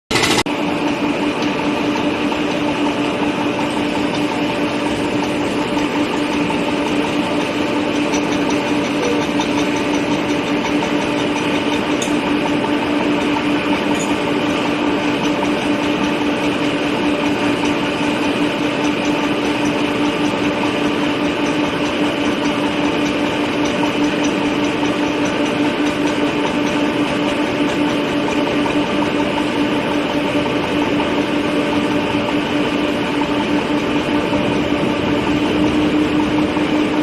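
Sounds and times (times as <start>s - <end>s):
drilling rig drone: 0.1s - 37.0s.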